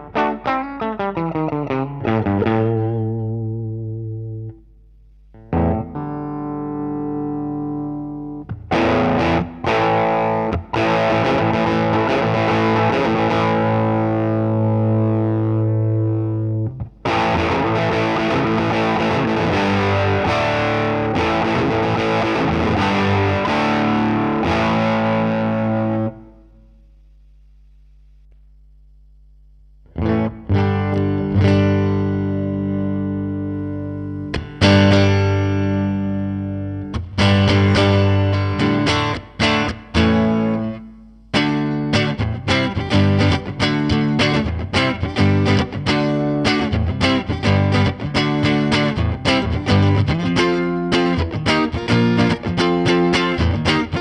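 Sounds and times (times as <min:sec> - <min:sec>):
distorted electric guitar chords: 0:00.0 - 0:26.8, 0:29.8 - 0:54.0
picked guitar notes: 0:00.0 - 0:26.9, 0:29.8 - 0:54.0
faint amplifier hum: 0:00.0 - 0:54.0.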